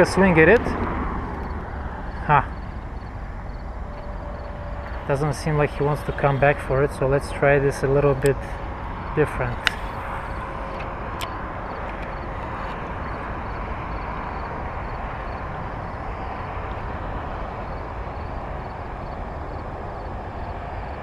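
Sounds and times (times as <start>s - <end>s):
highway traffic drone: 0.0s - 21.0s.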